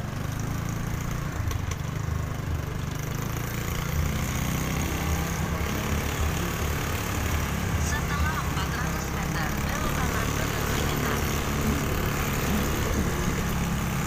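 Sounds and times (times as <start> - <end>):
motorcycle engine rumble: 0.0 - 14.0
road and wind noise: 0.0 - 14.0.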